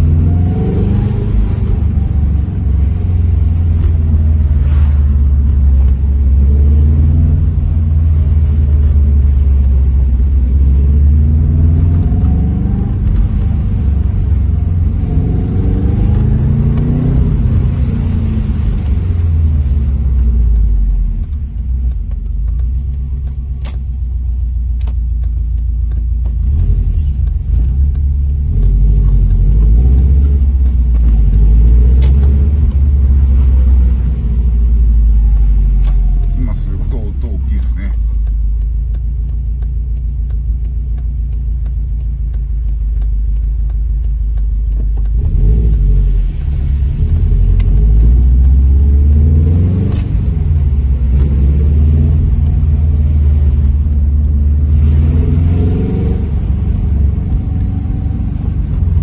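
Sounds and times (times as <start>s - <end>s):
car engine under way: 0.0s - 59.0s
road rumble: 0.0s - 59.0s.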